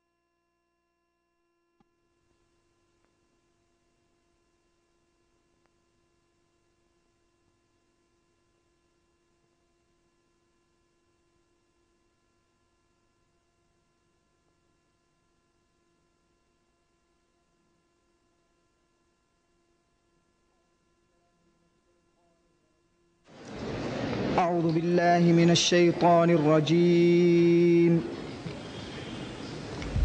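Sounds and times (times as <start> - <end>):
faint electrical hum: 2.2 - 30.0.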